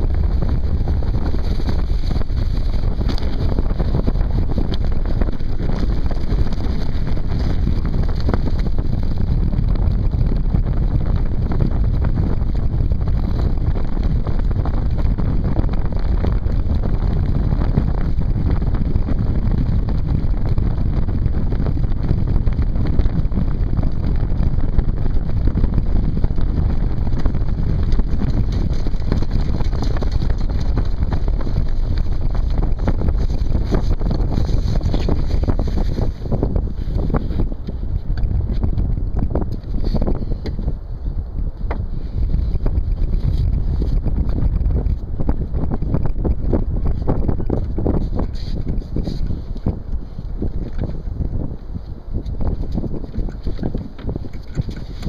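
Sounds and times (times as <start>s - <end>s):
land yacht rumbling and rattling: 0.0s - 55.0s
wind buffeting microphone: 0.0s - 55.0s.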